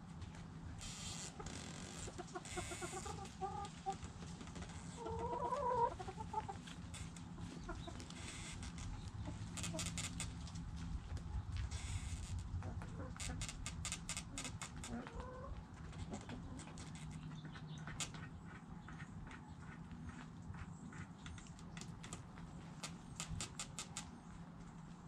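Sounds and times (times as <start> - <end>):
chickens scratching dirt: 0.0 - 25.0
chickens clucking: 1.2 - 11.2, 12.5 - 24.9.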